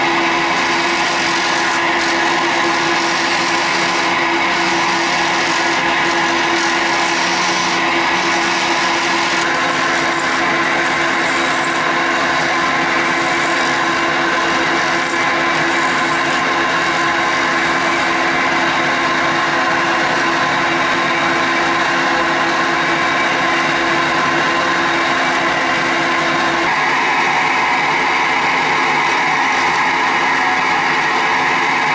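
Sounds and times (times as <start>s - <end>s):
tool scraping spinning resin: 0.0s - 26.8s, 28.2s - 30.0s
small lathe running: 0.0s - 31.9s.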